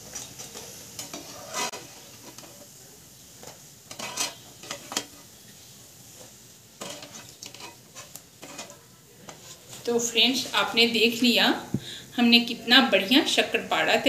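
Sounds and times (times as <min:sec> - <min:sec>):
hot oil fizzing: 0:00.0 - 0:12.1.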